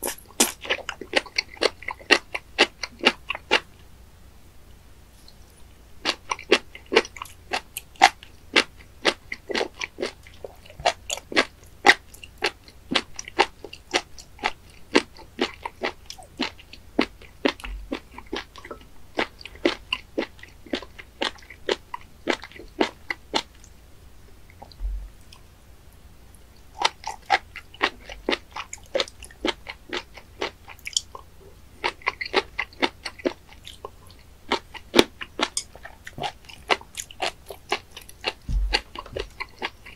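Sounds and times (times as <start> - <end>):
crisp chewing: 0.0 - 3.7, 5.2 - 23.8, 26.5 - 39.9.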